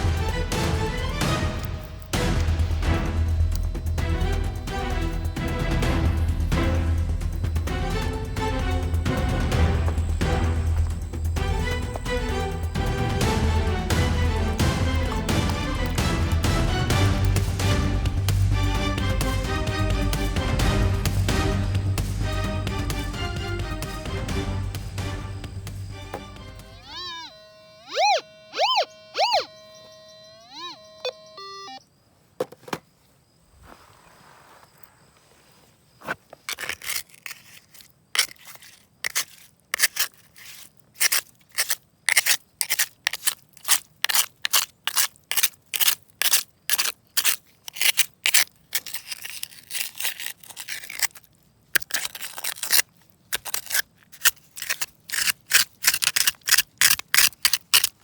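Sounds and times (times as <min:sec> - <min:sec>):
digging tool scraping gravel: 0:00.0 - 0:26.8, 0:33.6 - 0:58.0.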